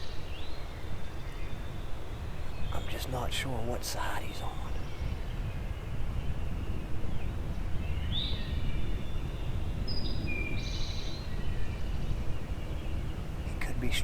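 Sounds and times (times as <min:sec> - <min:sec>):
songbirds calling: 0:00.0 - 0:14.0
wind on microphone: 0:01.5 - 0:14.0.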